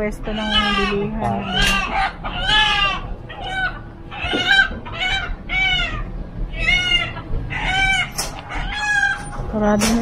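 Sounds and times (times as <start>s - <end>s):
chickens calling: 0.3s - 9.4s.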